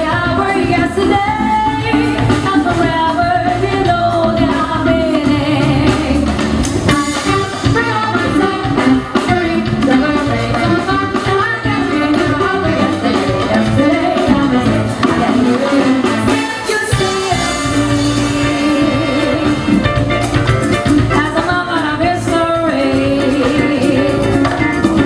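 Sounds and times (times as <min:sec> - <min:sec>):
woman singing: 0:00.0 - 0:20.0, 0:21.1 - 0:25.0
jazz big band playing: 0:00.0 - 0:25.0.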